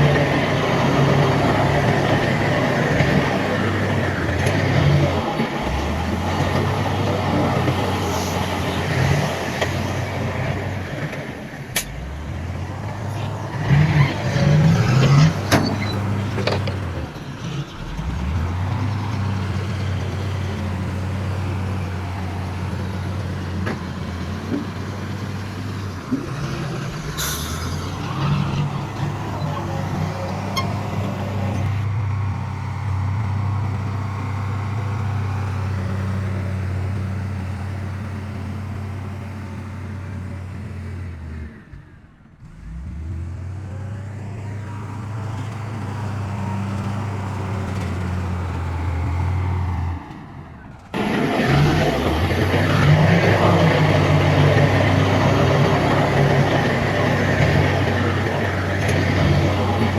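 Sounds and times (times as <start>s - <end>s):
heavy diesel machinery droning: 0.0s - 59.9s.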